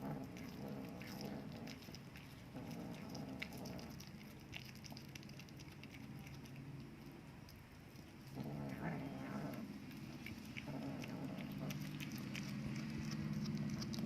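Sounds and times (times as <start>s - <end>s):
cat chewing wetly: 0.0s - 14.0s.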